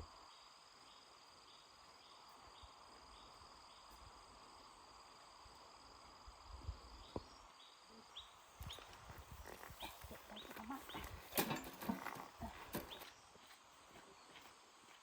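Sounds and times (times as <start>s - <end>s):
faint insects chirping: 0.0s - 15.0s.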